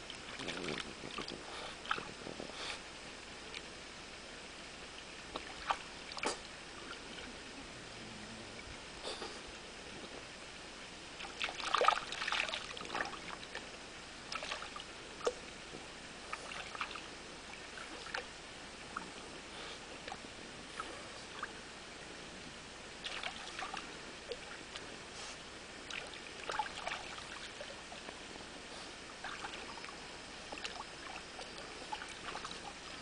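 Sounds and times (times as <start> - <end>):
stream trickling: 0.0 - 7.8, 9.6 - 22.1, 22.8 - 33.0.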